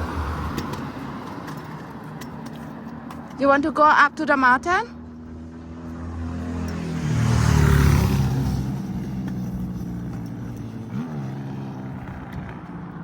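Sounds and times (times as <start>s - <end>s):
car engine: 0.0s - 13.0s.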